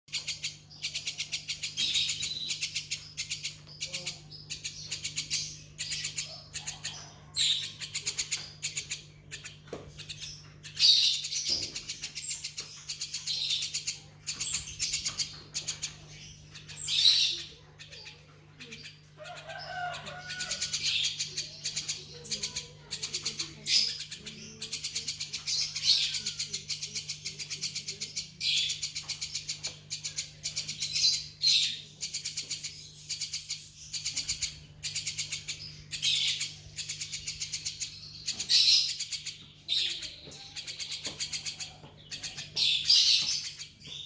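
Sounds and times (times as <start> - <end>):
songbirds chirping trills: 0.0 - 44.0.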